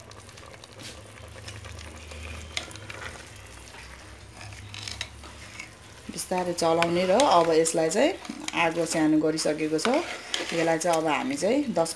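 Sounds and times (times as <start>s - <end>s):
faint sizzle: 0.0s - 11.9s
spatula scraping pot: 0.9s - 11.7s.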